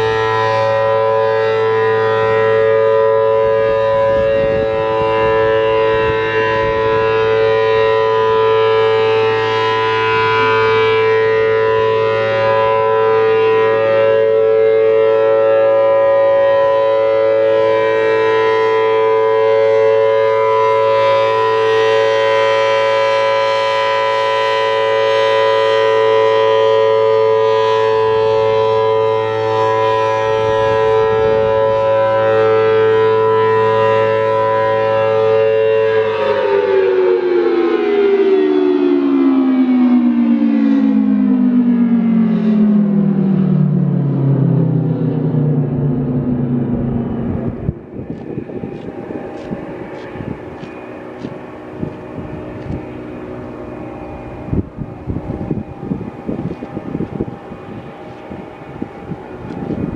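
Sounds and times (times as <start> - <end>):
two-tone rotating siren: 0.0 - 59.9.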